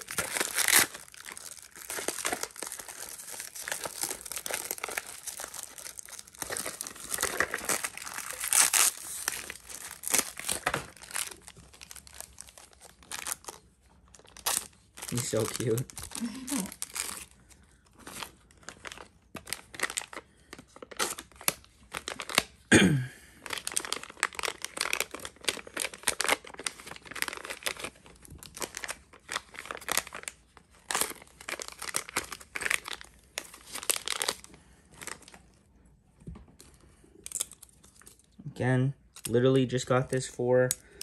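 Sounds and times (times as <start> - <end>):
plastic packaging crinkling and tearing: 0.0 - 22.7, 23.3 - 35.5, 37.1 - 41.0.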